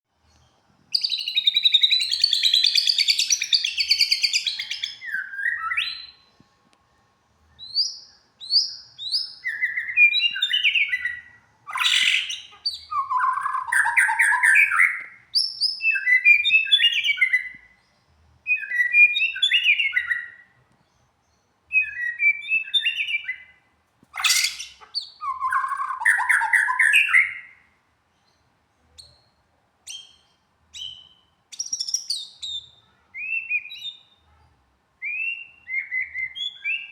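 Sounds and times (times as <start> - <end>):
songbird chirping and warbling: 0.2 - 36.9.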